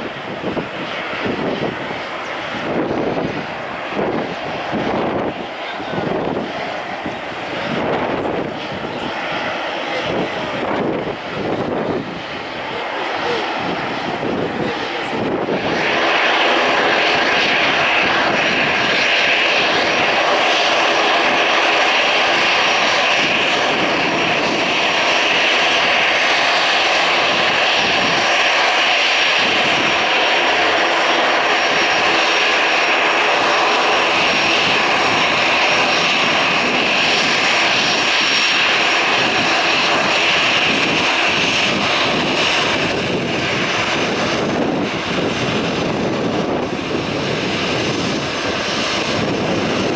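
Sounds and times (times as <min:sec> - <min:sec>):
jet engines at take-off power: 0:00.0 - 0:49.9.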